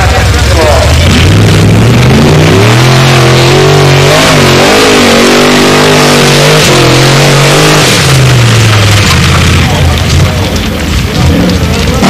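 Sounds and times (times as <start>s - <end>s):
buggy engine revving hard: 0.0s - 12.0s.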